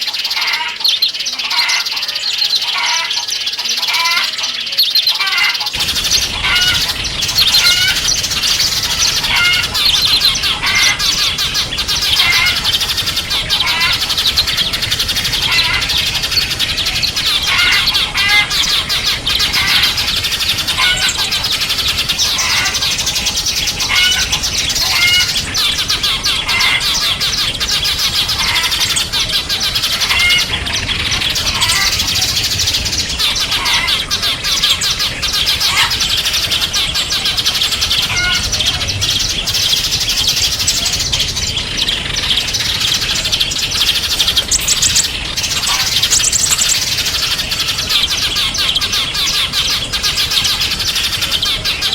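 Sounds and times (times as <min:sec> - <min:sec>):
songbirds chirping chorus: 0:00.0 - 0:51.9.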